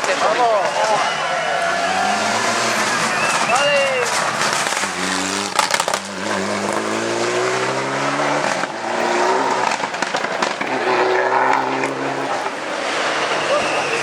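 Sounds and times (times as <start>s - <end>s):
car engine accelerating: 0.0s - 14.0s
sharp exhaust cracks: 0.0s - 14.0s.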